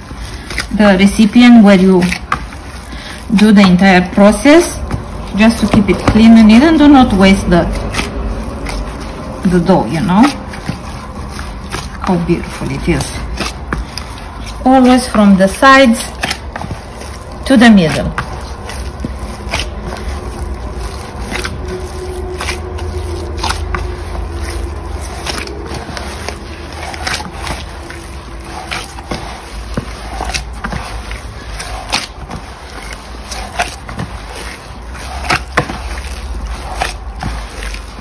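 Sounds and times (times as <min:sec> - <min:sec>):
dough squelching and slapping in bowl: 0:00.0 - 0:38.0.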